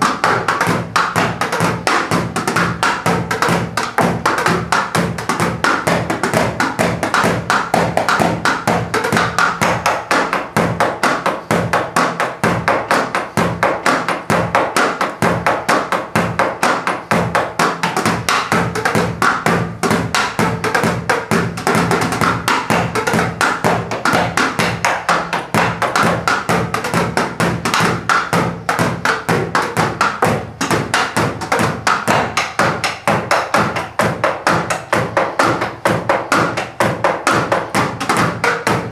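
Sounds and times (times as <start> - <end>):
drumsticks tapping rubber pads: 0.0 - 38.9
kick pedal thumping: 0.0 - 38.9.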